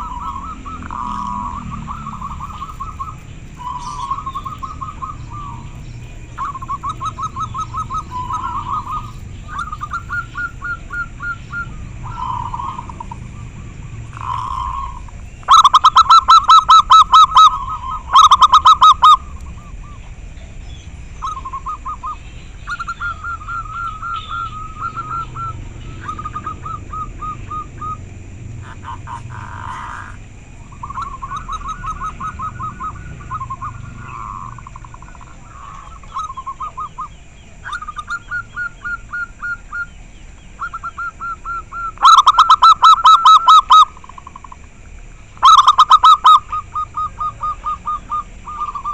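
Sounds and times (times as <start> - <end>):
doves trilled cooing: 0.0 - 48.9
faint doves answering: 0.0 - 48.9.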